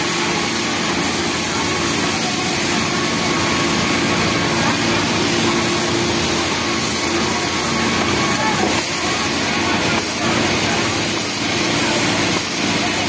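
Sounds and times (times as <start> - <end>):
industrial sewing machines running: 0.0 - 13.0.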